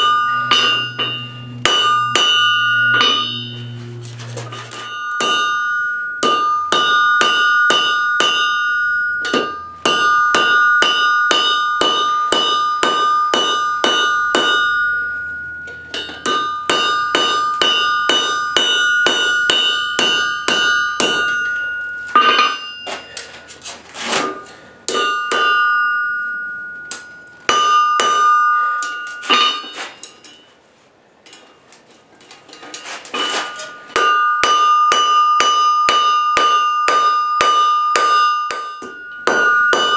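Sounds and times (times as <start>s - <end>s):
hammer striking steel on anvil: 0.0s - 30.5s, 32.7s - 39.9s.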